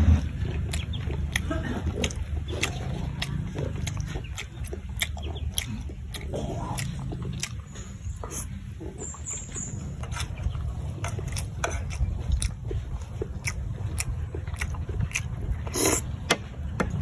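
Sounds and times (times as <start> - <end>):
person chewing with lip-smacks: 0.0 - 17.0
steady low hum: 0.0 - 17.0
sharp mouth clicks: 0.4 - 10.4, 11.1 - 16.4.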